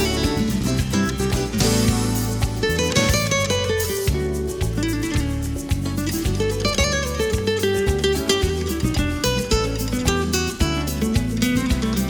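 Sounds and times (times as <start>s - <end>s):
flamenco style guitar: 0.0s - 12.0s.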